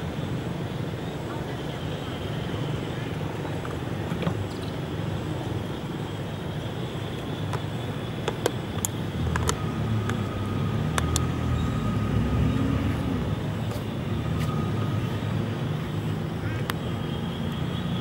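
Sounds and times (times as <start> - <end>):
low vehicle engine rumble: 0.0 - 18.0.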